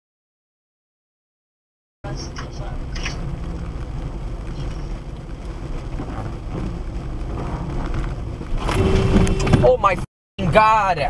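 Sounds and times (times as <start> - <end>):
wind and tyre noise inside car: 2.1 - 11.0.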